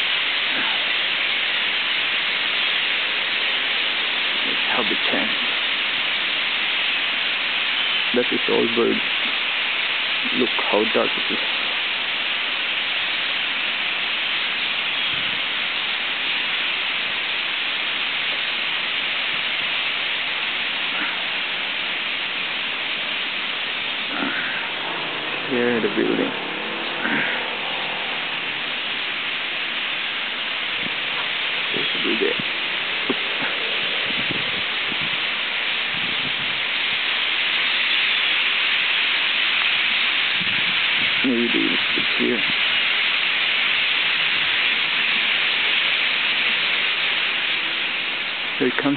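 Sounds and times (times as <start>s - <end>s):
flock of starlings calling: 0.0s - 48.9s.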